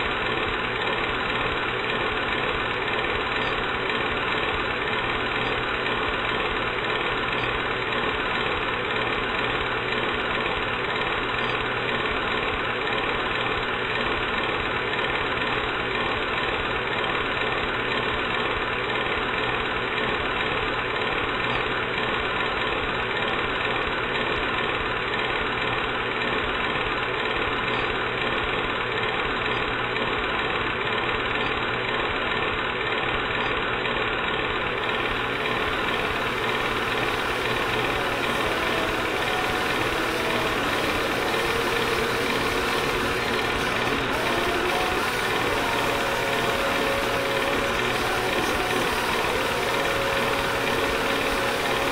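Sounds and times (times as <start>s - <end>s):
film projector whirring: 0.0s - 51.9s.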